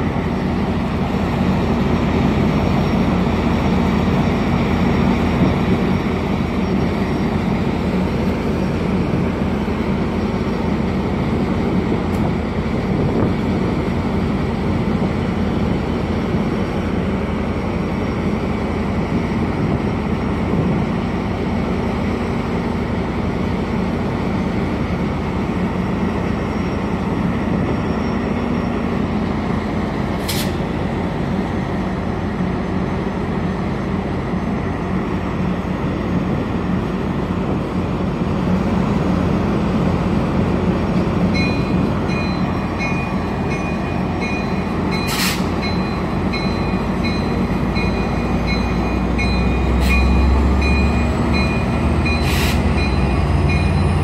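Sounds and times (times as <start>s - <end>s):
diesel locomotive humming: 0.0s - 54.0s.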